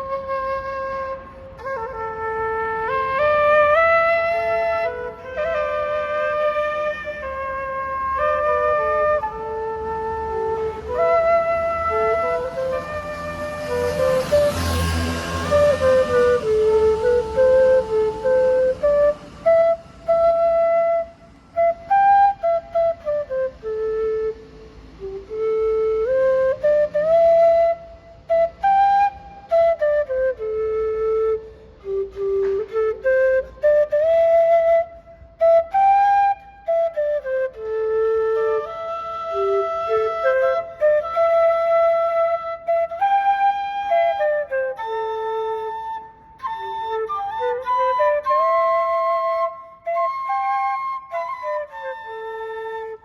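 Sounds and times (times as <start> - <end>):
flute playing a melody: 0.0 - 53.0.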